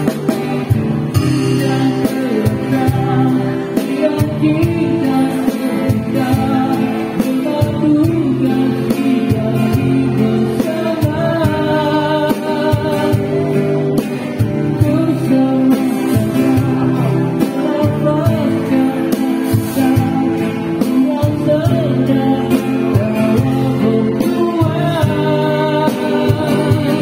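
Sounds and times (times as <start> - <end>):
person singing through microphone: 0.0 - 27.0
strummed guitar: 0.0 - 27.0.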